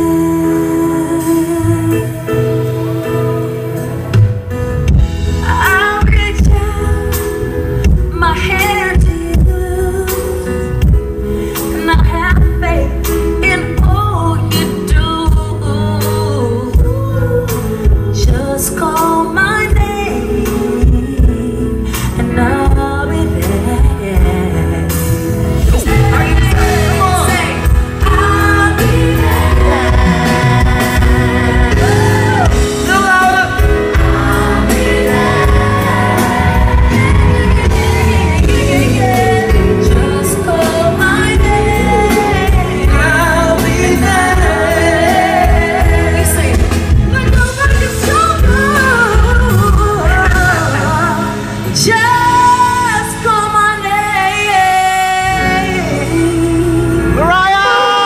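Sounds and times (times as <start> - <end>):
band playing pop-soul ballad: 0.0 - 58.0.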